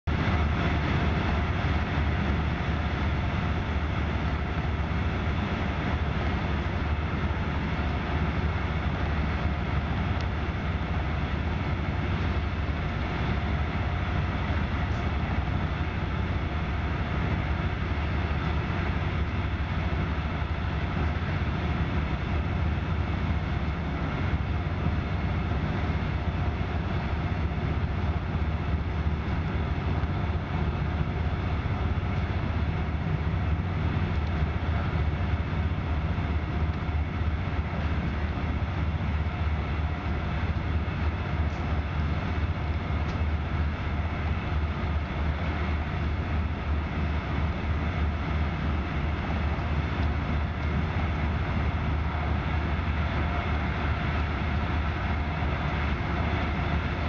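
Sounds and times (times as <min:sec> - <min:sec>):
train rumble inside carriage: 0:00.0 - 0:57.0.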